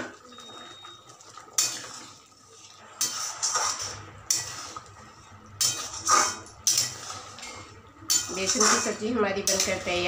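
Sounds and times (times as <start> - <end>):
spatula scraping a metal pan: 1.6 - 10.0.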